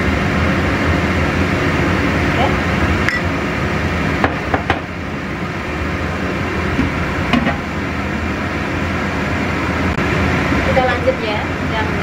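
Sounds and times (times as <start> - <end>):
water boiling rushing: 0.0 - 12.0.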